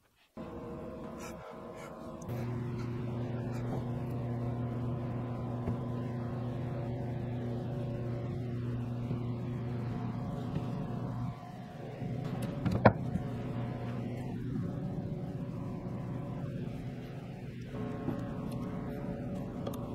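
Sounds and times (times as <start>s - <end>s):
low machine hum: 0.3s - 19.9s.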